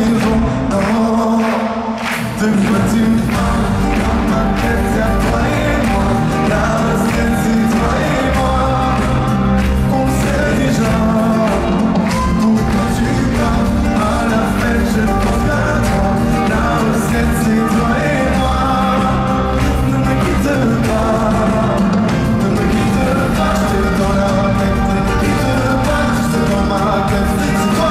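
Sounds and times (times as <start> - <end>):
man singing into microphone: 0.0 - 27.9
pop music backing: 0.0 - 27.9.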